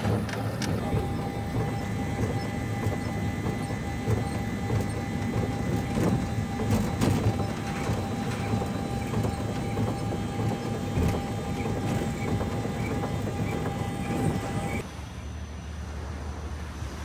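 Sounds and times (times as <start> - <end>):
wheels rumbling on rails: 0.0 - 17.0.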